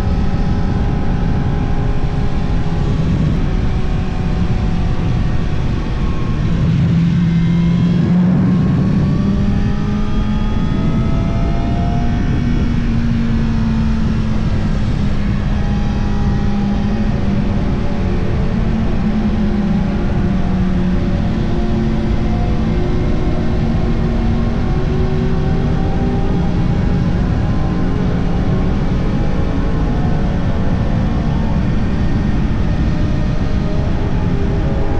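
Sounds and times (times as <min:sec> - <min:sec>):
wind noise: 0:00.0 - 0:34.9.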